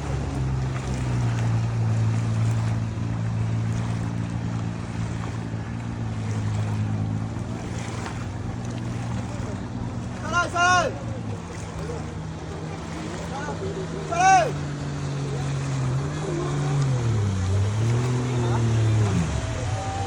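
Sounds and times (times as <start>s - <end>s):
motorboat engine running: 0.0s - 20.0s
water noise: 0.0s - 20.0s.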